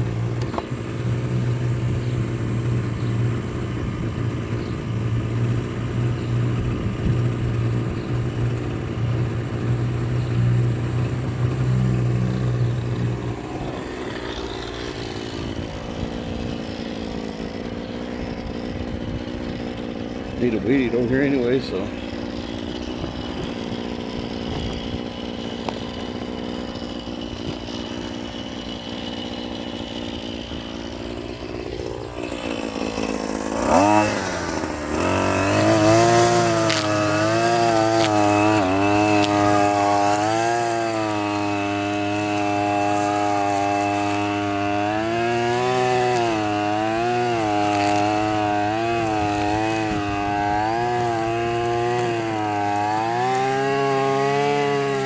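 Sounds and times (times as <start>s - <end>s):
string trimmer engine revving: 0.0s - 55.0s.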